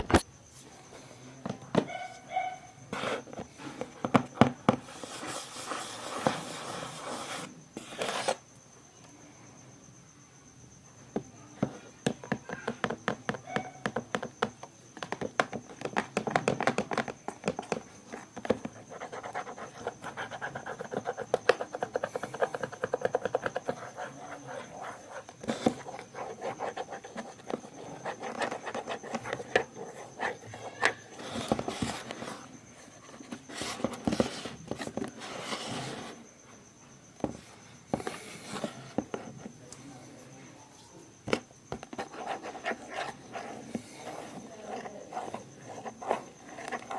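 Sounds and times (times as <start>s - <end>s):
faint steady high tone: 6.0s - 14.1s, 17.2s - 46.9s.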